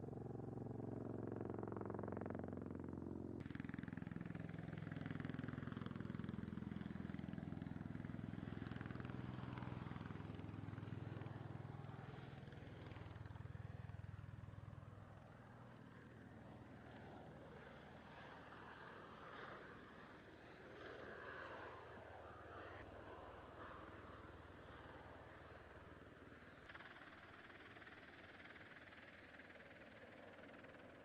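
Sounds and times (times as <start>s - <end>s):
aircraft rotors pulsing hum: 0.0s - 31.0s.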